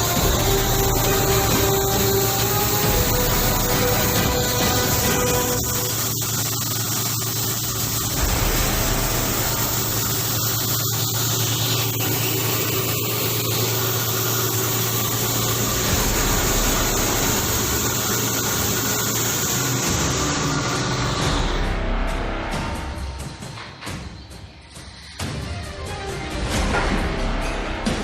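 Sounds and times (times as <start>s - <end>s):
mixer machine motor humming: 0.0s - 23.5s.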